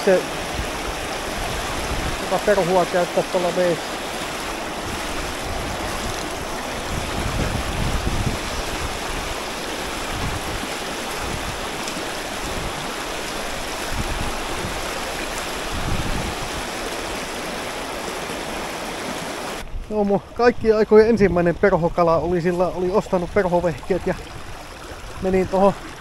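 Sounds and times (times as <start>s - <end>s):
water rushing over rocks: 0.0s - 26.0s
wind buffeting microphone: 0.3s - 26.0s.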